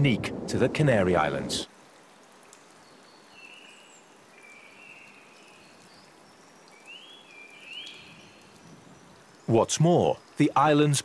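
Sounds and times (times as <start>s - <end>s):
light rain on foliage: 0.0s - 11.0s.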